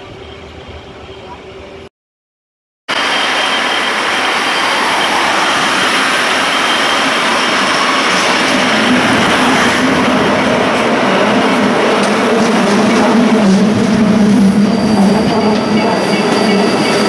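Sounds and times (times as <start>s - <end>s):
train wheels rolling on rail: 2.9s - 17.0s.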